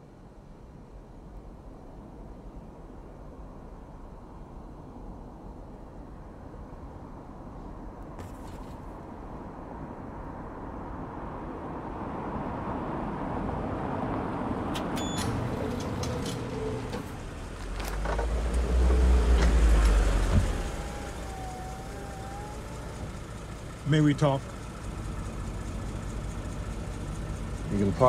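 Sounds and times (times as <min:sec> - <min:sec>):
car engine and tyres rumbling: 0:00.1 - 0:28.0.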